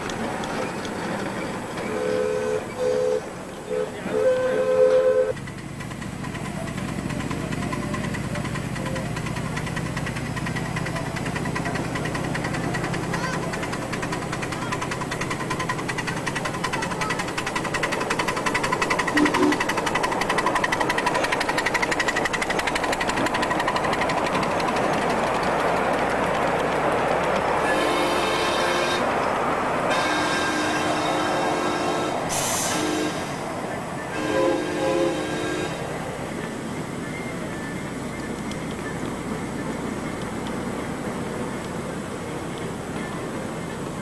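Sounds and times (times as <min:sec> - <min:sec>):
miniature train running on track: 0:00.0 - 0:44.0.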